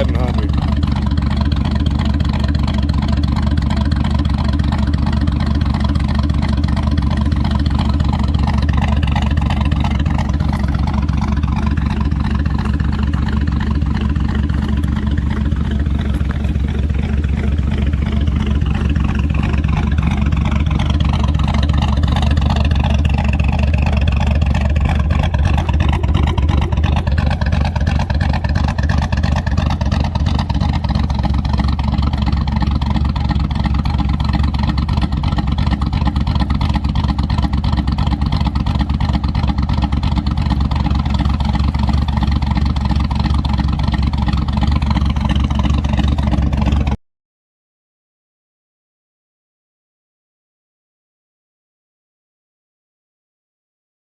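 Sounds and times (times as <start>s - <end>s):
truck engine lopey idle: 0.0s - 47.0s.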